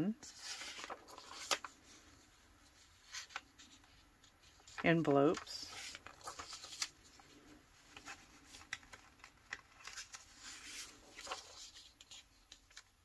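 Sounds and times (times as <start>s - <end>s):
paper sheets rustling: 0.3s - 13.0s.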